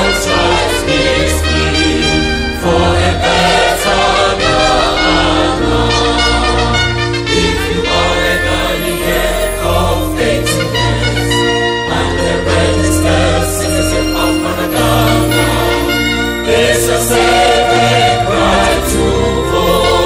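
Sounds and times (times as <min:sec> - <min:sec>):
bass: 0:00.0 - 0:20.0
choir singing gospel: 0:00.0 - 0:20.0
trumpet playing: 0:00.0 - 0:20.0.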